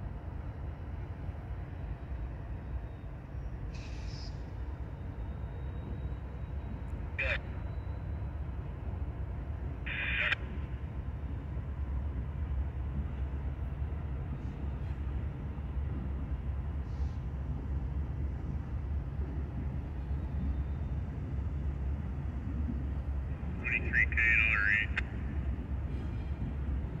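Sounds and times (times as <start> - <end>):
distant diesel locomotives rumbling: 0.0 - 27.0.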